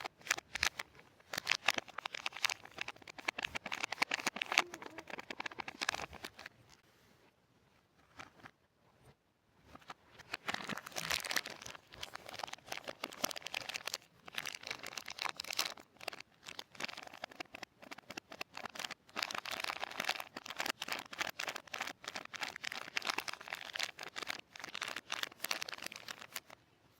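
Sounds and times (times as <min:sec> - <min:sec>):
soap crinkling and crunching: 0:00.0 - 0:06.7, 0:09.8 - 0:26.6.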